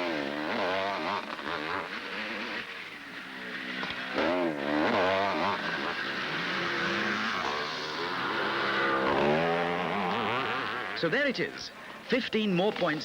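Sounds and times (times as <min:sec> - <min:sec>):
motocross motorcycle engines revving: 0:00.0 - 0:13.0.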